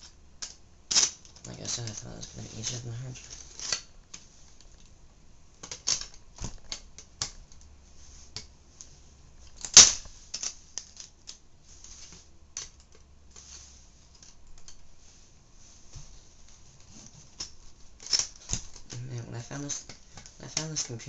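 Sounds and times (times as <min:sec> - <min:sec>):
small parts clicking and tapping: 0:00.0 - 0:04.9, 0:05.6 - 0:07.7, 0:08.3 - 0:13.5, 0:14.1 - 0:14.9, 0:17.0 - 0:21.0.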